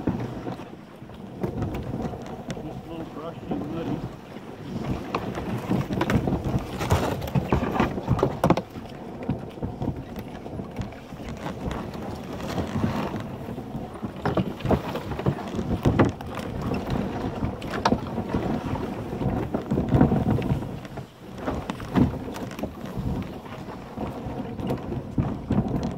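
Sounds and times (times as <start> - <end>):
kayak hull scraping over grass: 0.0 - 25.9
kayak knocking on ground: 0.0 - 25.9.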